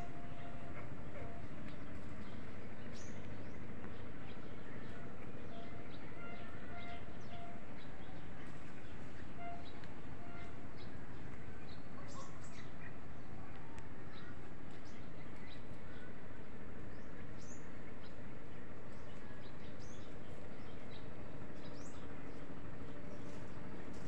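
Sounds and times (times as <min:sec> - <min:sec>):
small birds chirping: 0:00.0 - 0:24.0
steady background noise: 0:00.0 - 0:24.0.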